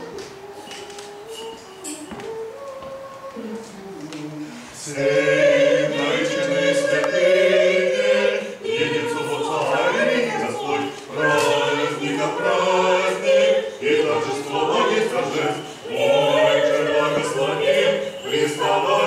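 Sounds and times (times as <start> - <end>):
choir singing a cappella chant: 0.0 - 19.0.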